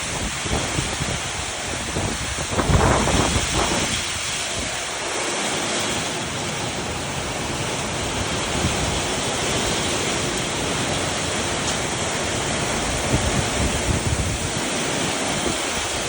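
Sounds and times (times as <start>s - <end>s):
heavy rain: 0.0s - 16.0s
wind: 0.0s - 16.0s.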